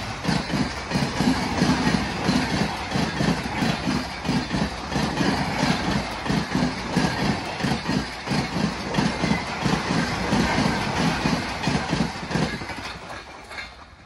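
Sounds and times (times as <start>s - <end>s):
rushing rumble of wheels: 0.0s - 14.0s
train wheels clickety-clack: 0.0s - 14.0s.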